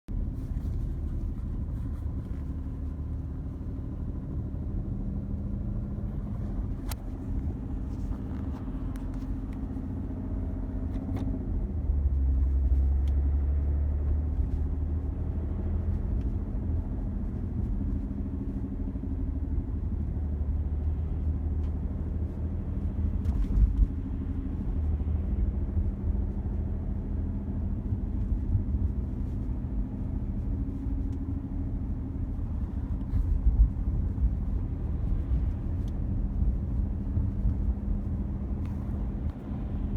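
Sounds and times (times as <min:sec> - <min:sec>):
diesel engine rumbling: 0:00.1 - 0:39.9.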